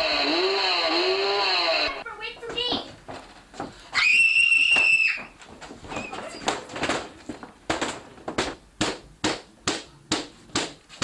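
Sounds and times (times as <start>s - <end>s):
footsteps: 2.2s - 11.0s.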